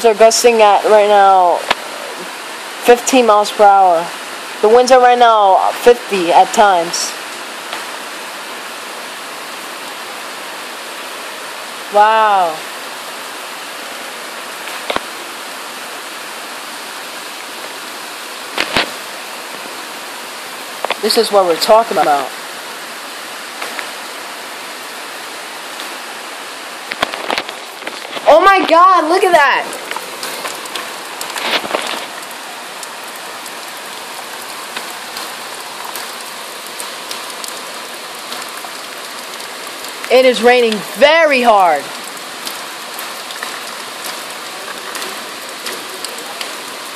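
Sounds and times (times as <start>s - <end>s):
heavy rain downpour: 0.0s - 46.9s.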